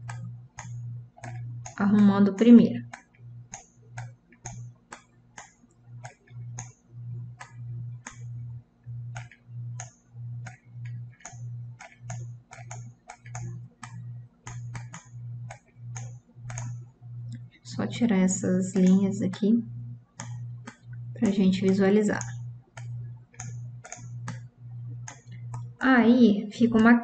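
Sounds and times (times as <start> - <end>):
computer mouse clicking: 0.0 - 17.7, 18.4 - 25.9, 26.6 - 27.0
short low hum: 0.0 - 27.0.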